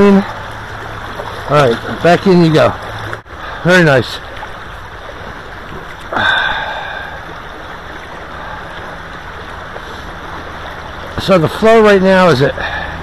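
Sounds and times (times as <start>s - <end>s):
river running over riffle: 0.0s - 13.0s.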